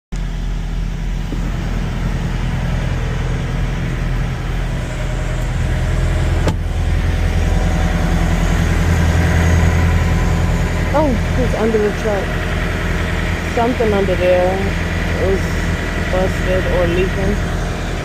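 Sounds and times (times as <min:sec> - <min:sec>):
truck diesel engine idling: 0:00.2 - 0:18.0.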